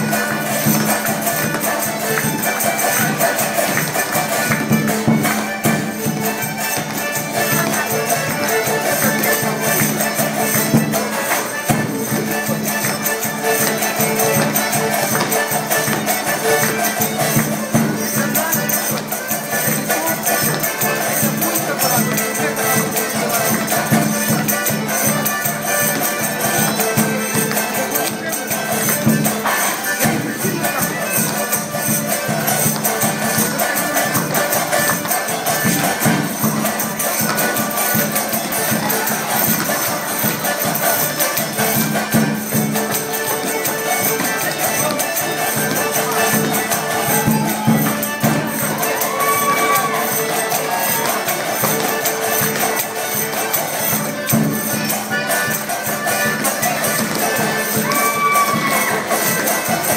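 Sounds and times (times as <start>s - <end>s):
folk polka music: 0.0s - 59.9s.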